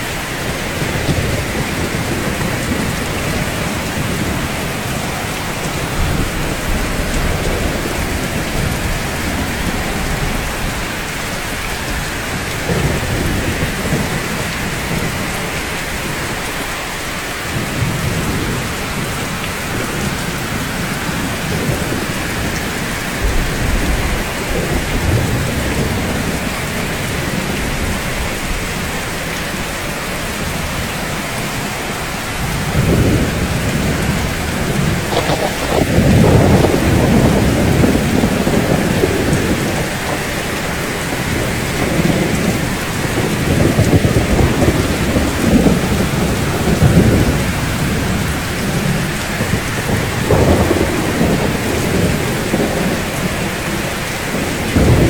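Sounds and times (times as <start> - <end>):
rolling thunder: 0.0 - 16.8, 17.4 - 55.0
heavy rain hissing: 0.0 - 55.0.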